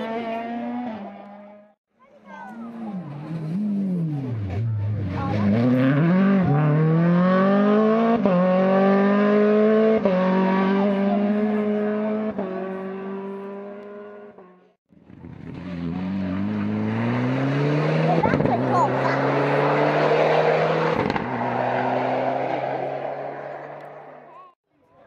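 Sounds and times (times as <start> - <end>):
rally car engine accelerating: 0.0 - 1.8, 2.5 - 24.4.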